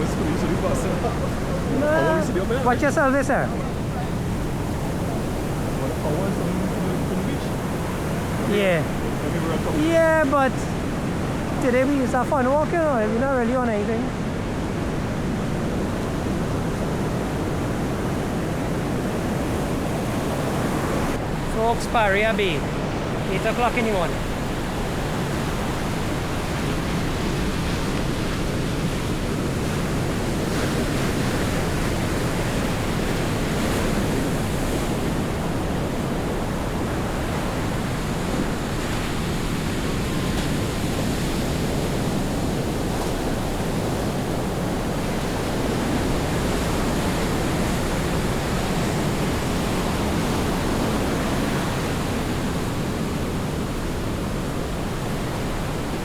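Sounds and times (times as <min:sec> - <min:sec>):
sea surf breaking on beach: 0:00.0 - 0:56.0.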